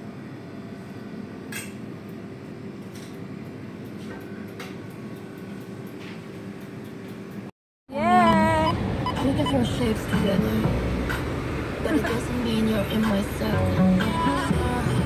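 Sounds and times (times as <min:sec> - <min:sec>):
steady shop hum: 0:00.0 - 0:15.0.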